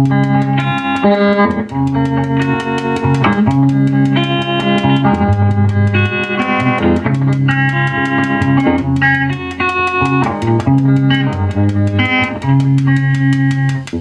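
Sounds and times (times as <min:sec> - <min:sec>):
amp vibrato ticking: 0:00.0 - 0:14.0
electric guitar playing: 0:00.0 - 0:14.0.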